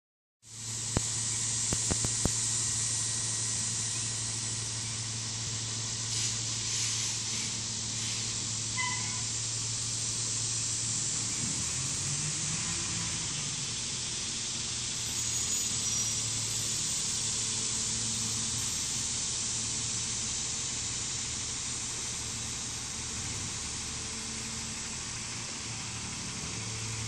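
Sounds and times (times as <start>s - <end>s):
broad steady hiss: 0.4s - 27.0s
distant garbage truck engine: 0.5s - 27.0s.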